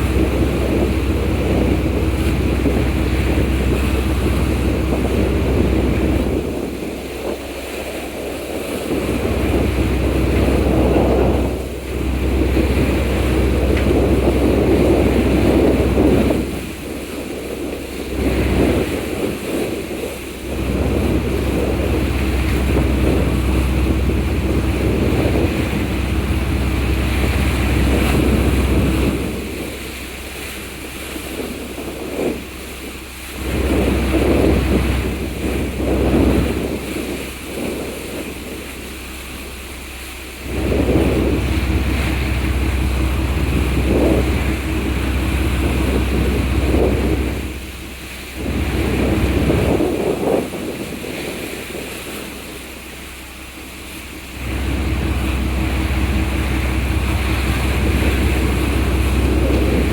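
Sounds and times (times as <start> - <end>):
sea rushing: 0.0 - 59.9
steady hum: 0.0 - 59.9
wind buffeting microphone: 0.0 - 59.9.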